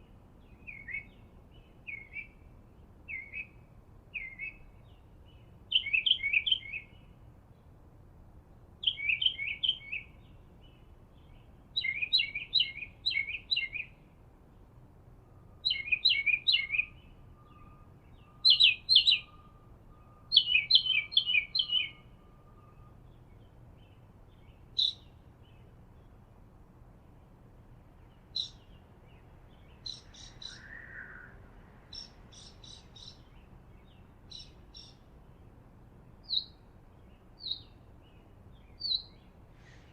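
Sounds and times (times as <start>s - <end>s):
bird chirps: 0.0s - 2.4s, 3.1s - 7.7s, 8.8s - 14.0s, 15.4s - 26.2s, 28.0s - 39.9s
songbird singing: 0.0s - 39.9s.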